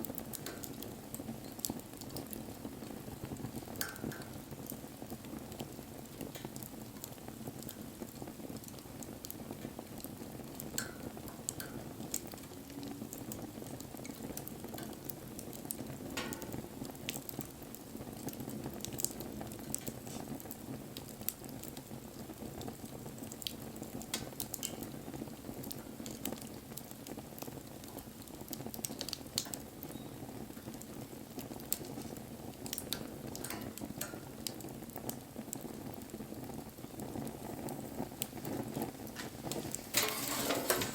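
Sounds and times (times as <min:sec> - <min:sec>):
bonfire flames rushing: 0:00.0 - 0:40.9
fire crackling and popping: 0:00.0 - 0:40.9.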